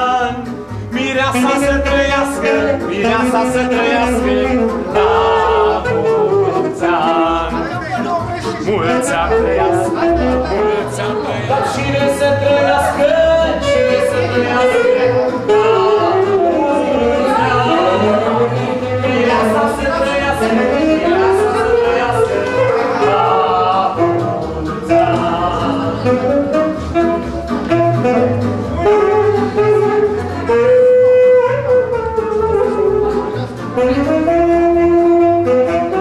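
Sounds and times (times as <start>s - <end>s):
pulsing bass accompaniment: 0.0s - 36.0s
saxophone melody: 0.3s - 36.0s.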